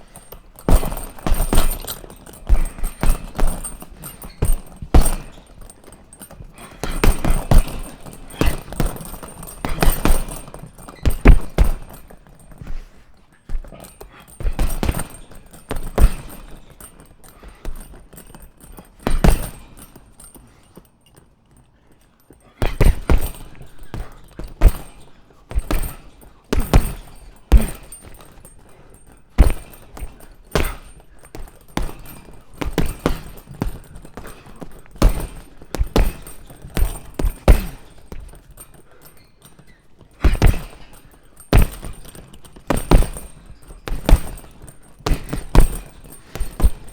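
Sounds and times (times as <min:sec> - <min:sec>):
punches thudding on punching bag: 0:00.0 - 0:20.4, 0:22.6 - 0:46.9.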